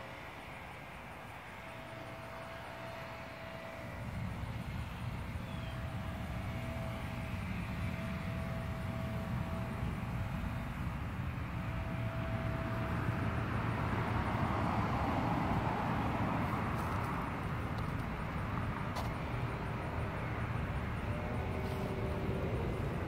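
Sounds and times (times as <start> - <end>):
distant vehicle passing: 0.0 - 23.0.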